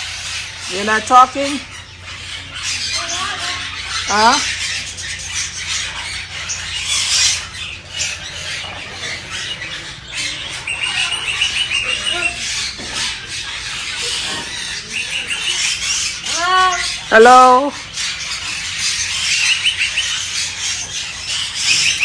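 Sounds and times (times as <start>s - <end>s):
parrots chattering and squawking: 0.0s - 22.0s.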